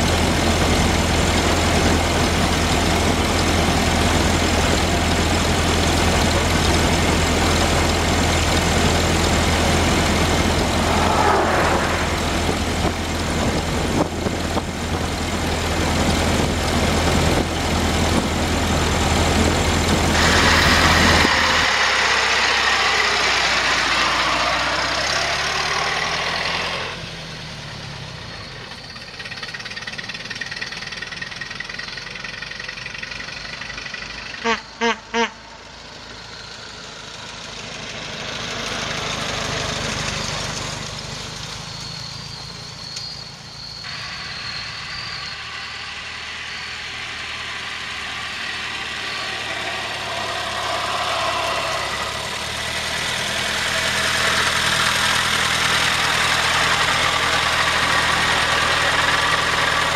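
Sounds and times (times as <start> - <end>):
car engine humming: 0.0 - 28.2, 28.8 - 59.9
wind and road noise: 0.0 - 28.7, 35.6 - 59.9.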